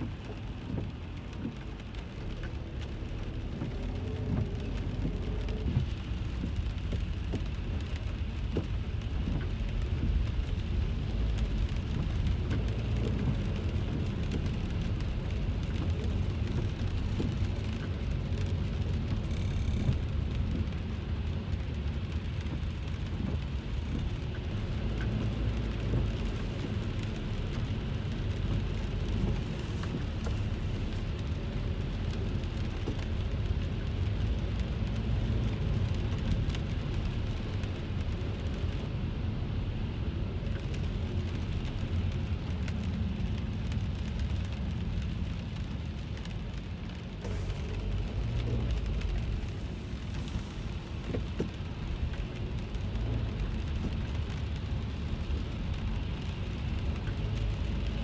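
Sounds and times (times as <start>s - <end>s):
car driving rumble: 0.0s - 58.0s
rain pattering on car roof: 0.0s - 58.0s.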